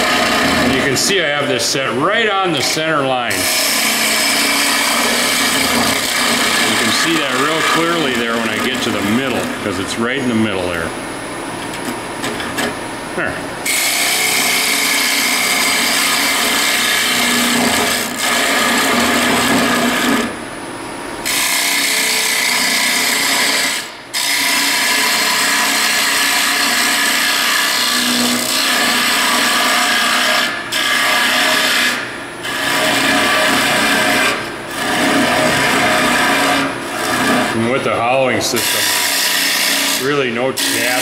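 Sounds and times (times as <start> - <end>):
lathe tool scraping wood: 0.0 - 10.8, 13.6 - 20.4, 21.2 - 41.0.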